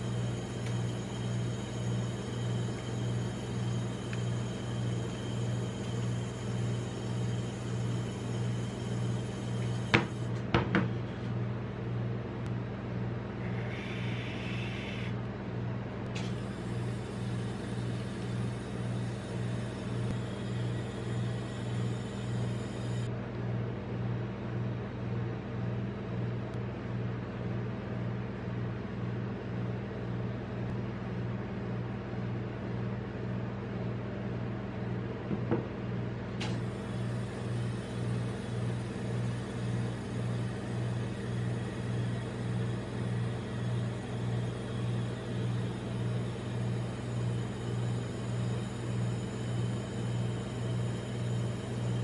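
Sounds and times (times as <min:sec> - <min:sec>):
refrigeration unit humming: 0:00.0 - 0:52.0.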